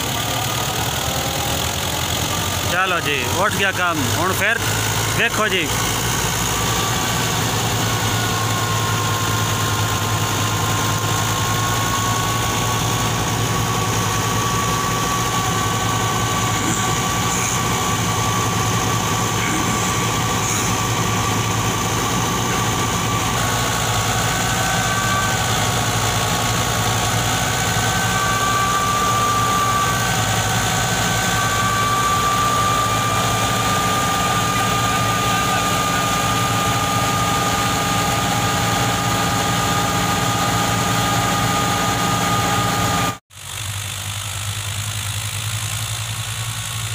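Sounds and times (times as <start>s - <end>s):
tractor diesel engine under load: 0.0s - 46.9s
high whine: 2.3s - 43.2s.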